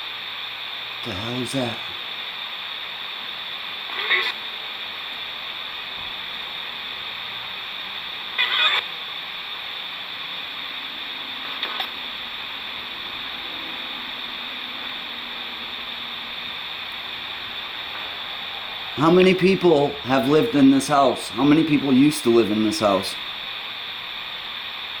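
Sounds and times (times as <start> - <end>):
crackle of noise: 0.0 - 25.0
radio static hiss: 0.0 - 25.0.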